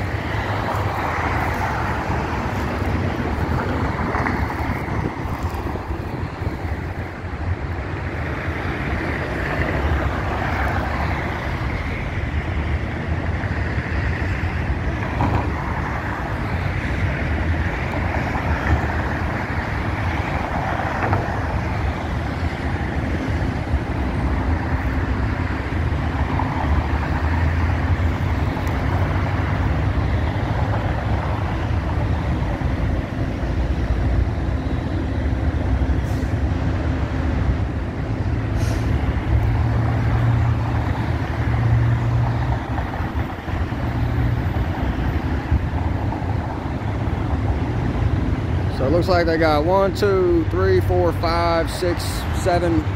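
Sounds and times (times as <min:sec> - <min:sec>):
engine hum: 0:00.0 - 0:52.9
traffic rumble: 0:00.0 - 0:52.9.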